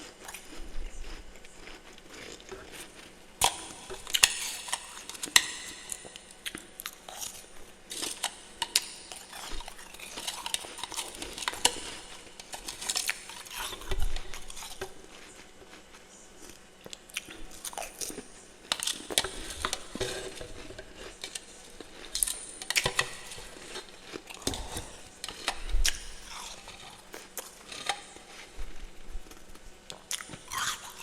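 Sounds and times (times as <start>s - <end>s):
person crunching frost: 0.0s - 31.0s.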